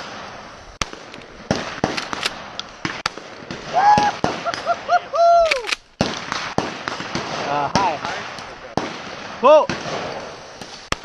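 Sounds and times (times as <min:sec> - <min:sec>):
shotgun shots: 0:00.0 - 0:04.9, 0:05.5 - 0:11.0.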